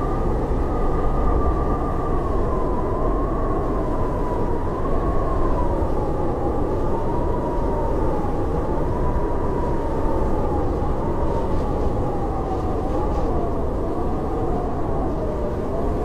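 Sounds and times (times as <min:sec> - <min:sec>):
howling blizzard wind: 0:00.0 - 0:16.0.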